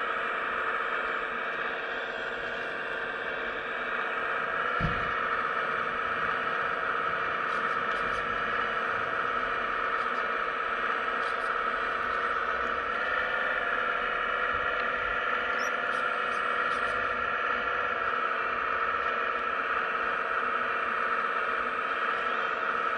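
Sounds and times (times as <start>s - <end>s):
hydraulic pump whine: 0.0s - 22.9s.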